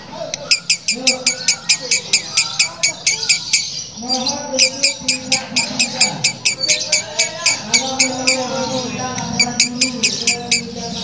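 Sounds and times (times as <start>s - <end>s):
lovebird rasping chatter: 0.3s - 11.0s.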